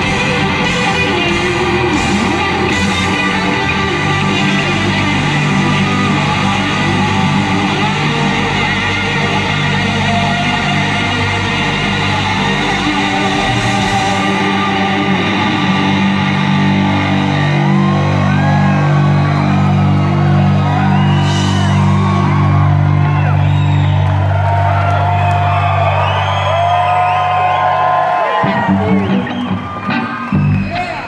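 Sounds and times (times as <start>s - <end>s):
audience whooping: 0.0s - 31.0s
rock band playing loudly: 0.0s - 31.0s.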